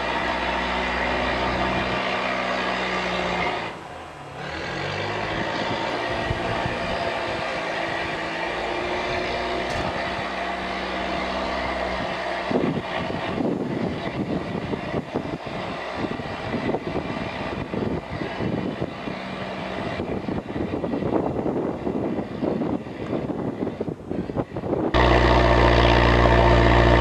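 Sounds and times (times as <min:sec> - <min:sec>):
vehicle engine humming: 0:00.0 - 0:27.0
wind buffeting microphone: 0:00.0 - 0:27.0.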